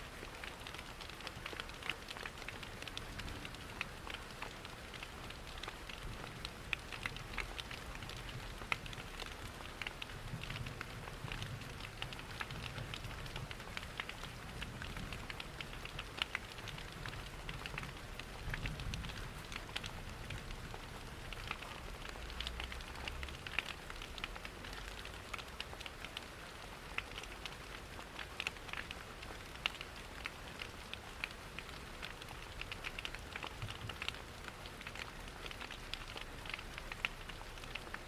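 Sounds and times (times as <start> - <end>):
wood fire crackling: 0.2 - 38.0.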